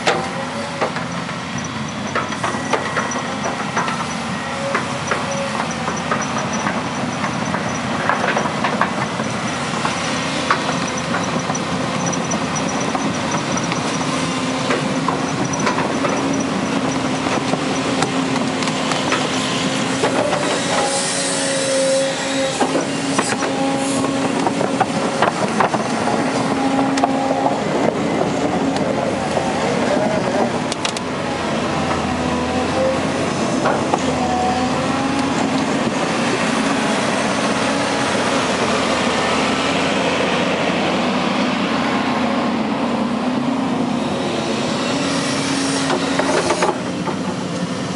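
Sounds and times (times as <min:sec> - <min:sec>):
diesel engine running: 0:00.0 - 0:47.9
steel tracks clanking: 0:00.0 - 0:47.9.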